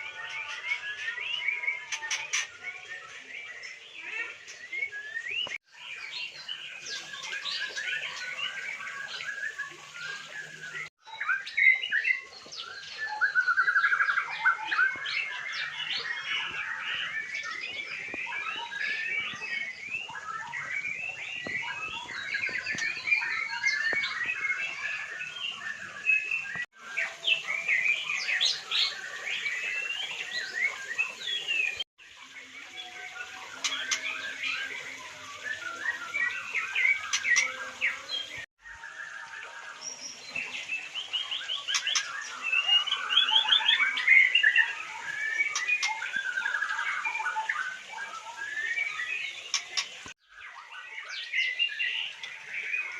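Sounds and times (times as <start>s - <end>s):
songbirds chorus: 0.0s - 52.9s.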